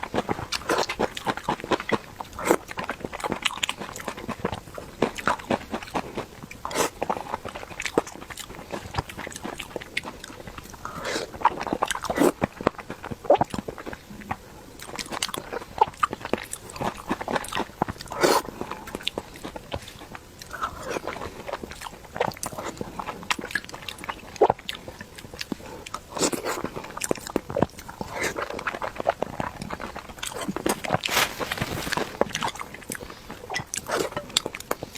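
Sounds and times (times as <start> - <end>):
person chewing with lip-smacking: 0.0 - 34.9.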